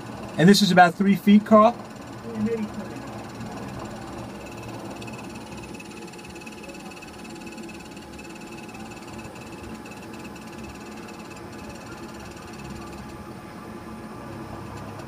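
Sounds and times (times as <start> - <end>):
rapidly pulsing high tone: 0.0 - 13.4, 14.4 - 15.0
machinery hum: 0.0 - 15.0.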